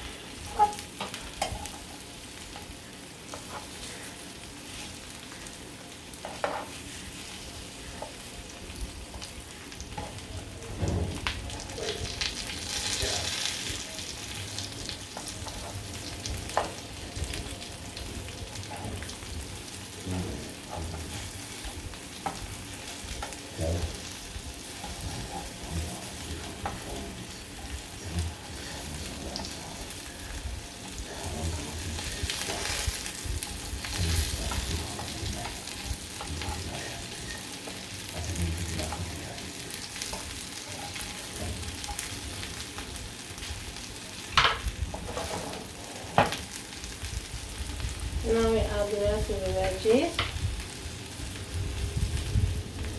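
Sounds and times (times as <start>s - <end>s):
food sizzling in hot oil: 0.0s - 52.9s
utensil stirring against pan: 0.1s - 10.6s, 11.4s - 52.3s.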